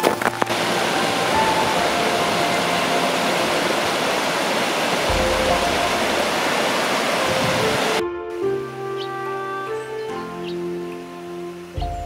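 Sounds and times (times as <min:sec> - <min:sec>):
stream rushing over cascades: 0:00.0 - 0:08.0, 0:09.7 - 0:12.0.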